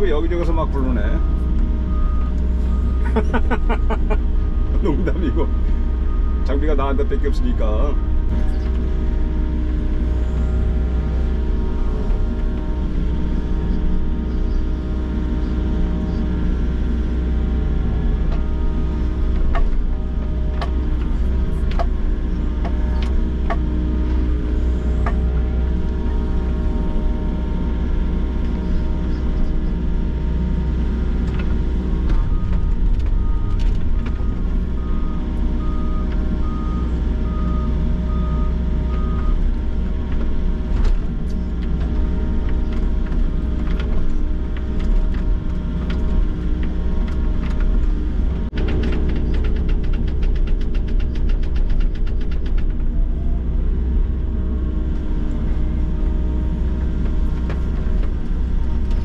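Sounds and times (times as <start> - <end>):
excavator engine rumbling: 0.0 - 59.0.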